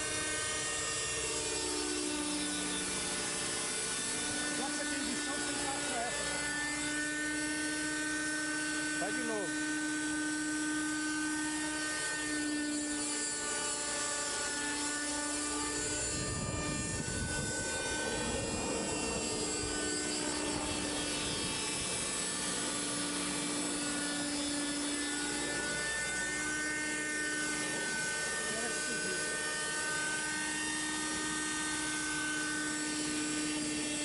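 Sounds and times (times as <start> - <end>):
model helicopter engine whining: 0.0 - 34.0.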